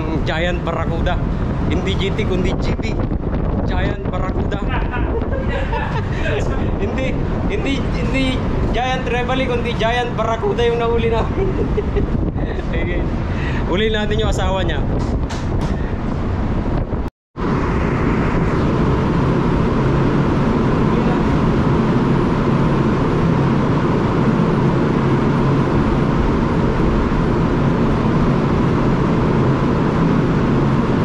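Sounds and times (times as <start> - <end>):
ship machinery drone: 0.0 - 31.0.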